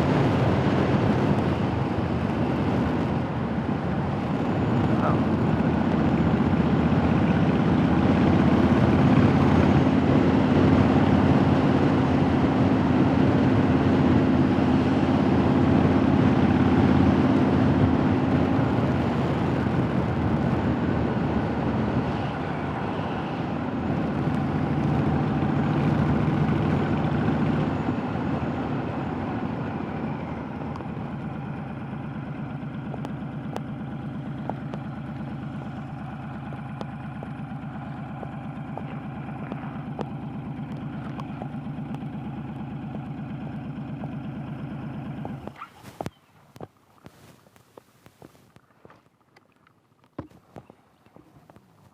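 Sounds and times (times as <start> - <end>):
motorcycle engine running: 0.0 - 48.5.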